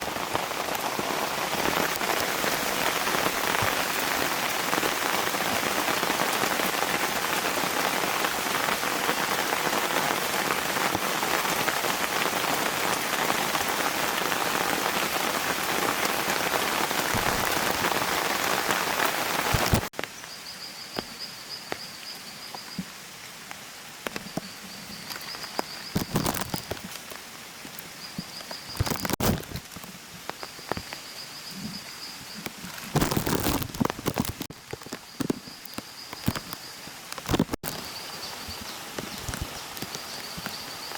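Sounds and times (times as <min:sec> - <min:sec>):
heavy rain falling: 0:00.0 - 0:20.1, 0:23.5 - 0:40.9.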